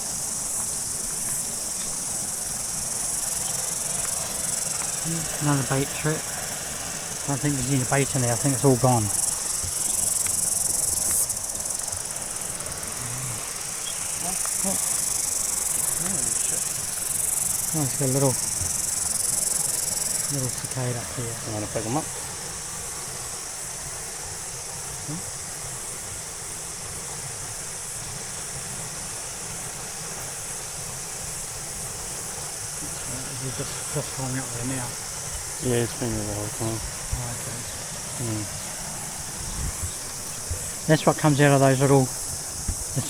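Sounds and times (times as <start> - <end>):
cicadas buzzing: 0.0 - 43.0.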